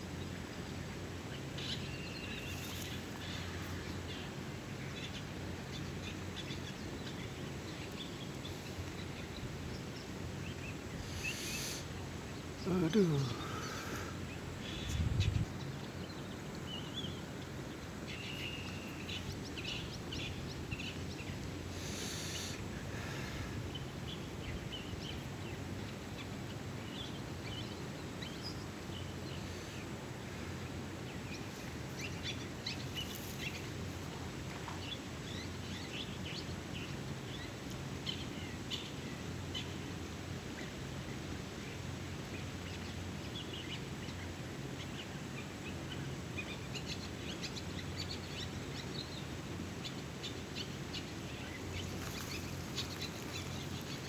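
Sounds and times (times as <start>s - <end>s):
birds chirping: 0.2s - 54.0s.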